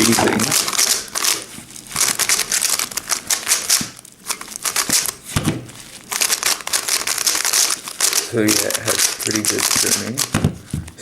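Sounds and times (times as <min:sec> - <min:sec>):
puzzle cube clicking: 0:00.0 - 0:05.2, 0:06.1 - 0:10.5.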